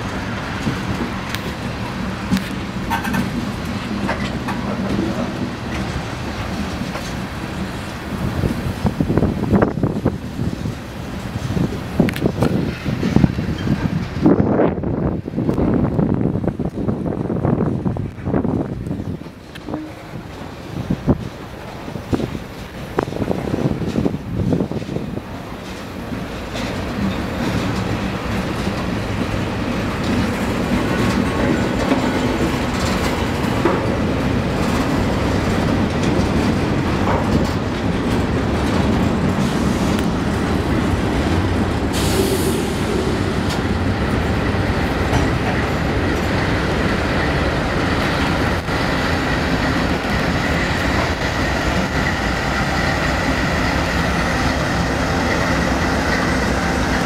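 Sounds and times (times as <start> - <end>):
diesel locomotives passing: 0.0 - 57.0
freight train rumbling over rails: 0.0 - 57.0.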